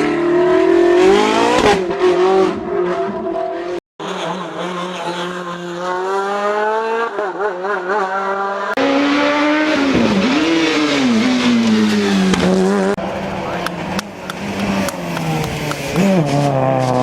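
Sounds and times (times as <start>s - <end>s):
race car engine accelerating: 0.0s - 17.0s
second race car engine: 0.0s - 17.0s.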